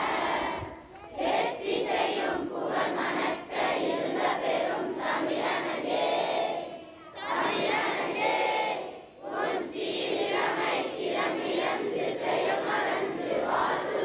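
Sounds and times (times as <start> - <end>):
children singing in unison: 0.0 - 14.0.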